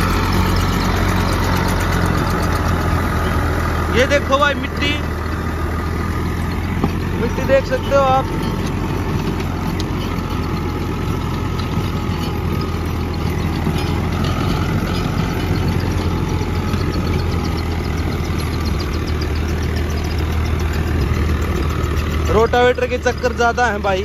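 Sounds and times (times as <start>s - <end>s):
rotavator churning soil: 0.0s - 24.0s
tractor diesel engine running: 0.0s - 24.0s.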